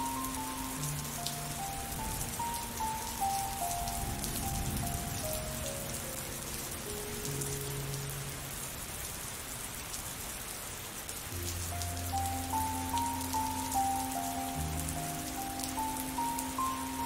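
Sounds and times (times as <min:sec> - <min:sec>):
soft music with held notes: 0:00.0 - 0:09.0, 0:11.3 - 0:17.0
steady rain falling: 0:00.0 - 0:17.0.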